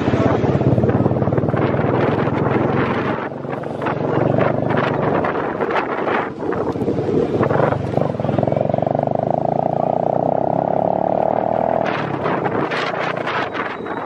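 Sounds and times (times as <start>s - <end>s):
motorcycle engine buzzing: 0.0s - 14.0s
street noise: 0.0s - 14.0s
voices: 0.0s - 14.0s.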